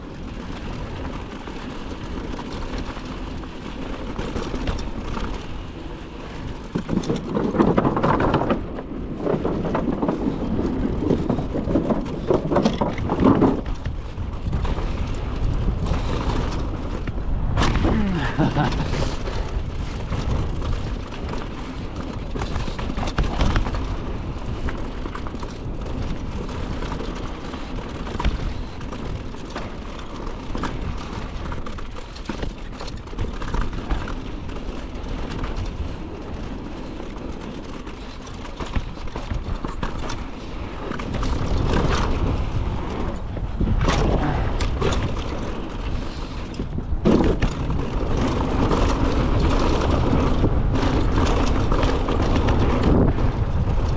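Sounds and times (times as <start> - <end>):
bike rattling: 0.0 - 53.9
bike tyre noise: 0.0 - 53.9
wind rushing over microphone: 0.0 - 53.9
sharp knocks over bumps: 6.4 - 53.6.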